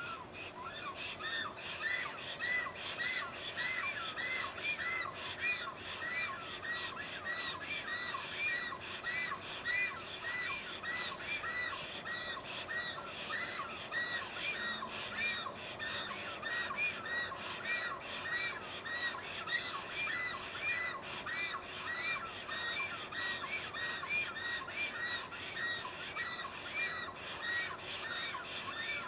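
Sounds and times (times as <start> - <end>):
stork calls: 0.0 - 29.0.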